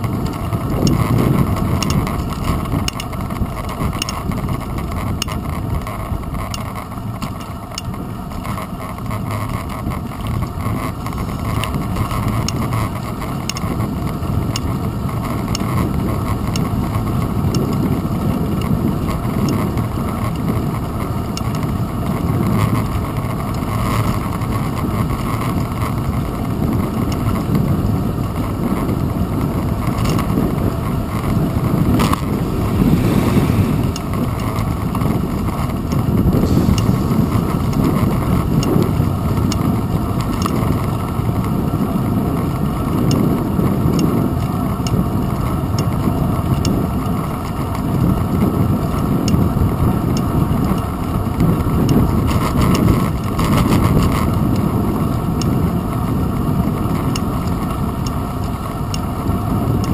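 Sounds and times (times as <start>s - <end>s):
bicycle road rumble: 0.0s - 59.9s.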